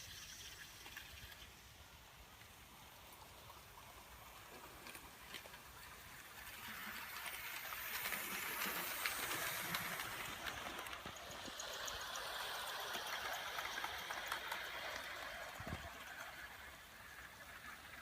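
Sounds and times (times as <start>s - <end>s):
model train wheels clattering: 0.0s - 18.0s.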